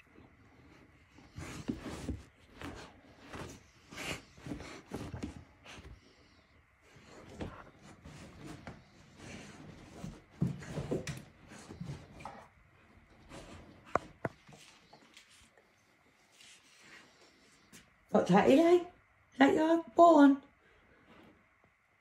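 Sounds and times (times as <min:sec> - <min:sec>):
dog rustling and scuffing rug: 0:00.0 - 0:18.9.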